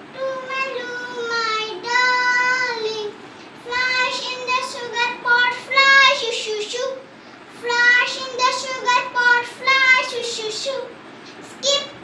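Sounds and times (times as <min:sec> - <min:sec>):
child singing: 0:00.1 - 0:12.0.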